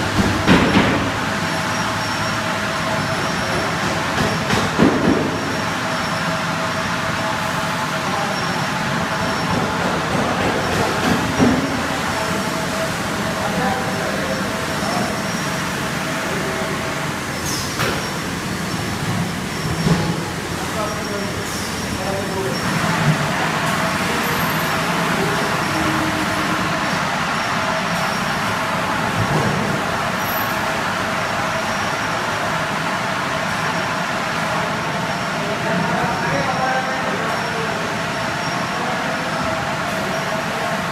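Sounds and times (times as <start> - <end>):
machinery hum and hiss: 0.0 - 40.9.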